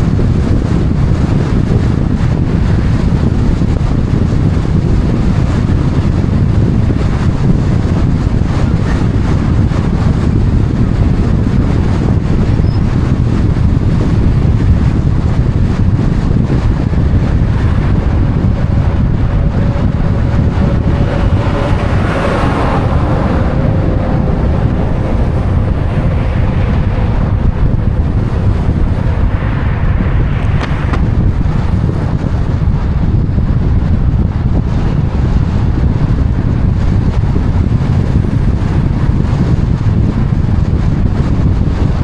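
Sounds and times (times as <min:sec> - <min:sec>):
traffic noise: 0:00.0 - 0:40.8
wind buffeting microphone: 0:00.0 - 0:42.0.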